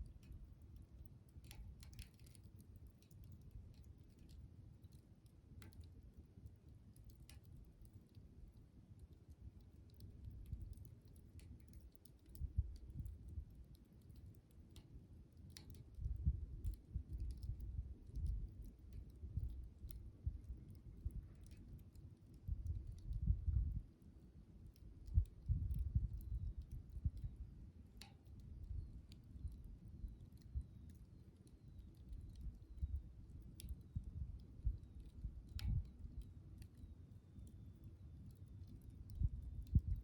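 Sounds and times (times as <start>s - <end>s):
campfire crackling and popping: 0.0s - 23.8s, 24.6s - 36.8s, 38.2s - 40.0s.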